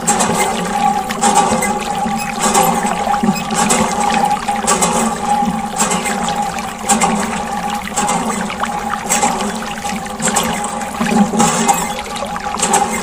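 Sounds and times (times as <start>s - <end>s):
steady hum: 0.0s - 13.0s
water pouring and splashing: 0.0s - 13.0s.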